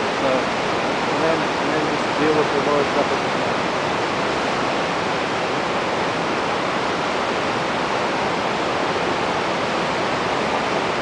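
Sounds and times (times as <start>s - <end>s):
whitewater rapid rushing: 0.0s - 11.0s.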